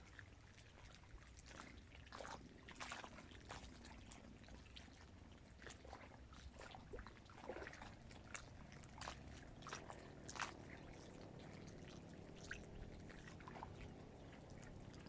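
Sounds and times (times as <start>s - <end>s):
small waves lapping against bank: 0.0s - 15.0s.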